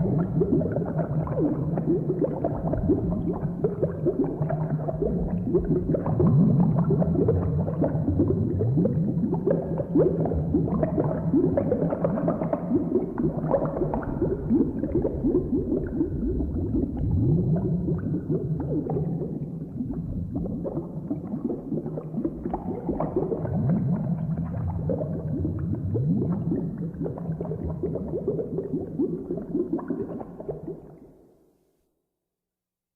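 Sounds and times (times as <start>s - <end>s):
thick liquid bubbling: 0.0s - 31.3s.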